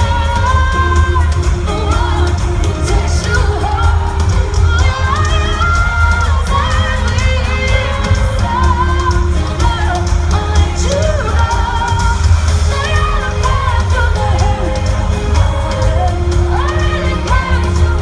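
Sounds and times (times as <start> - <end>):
bass-heavy backing track: 0.0 - 18.0
woman singing: 0.0 - 18.0.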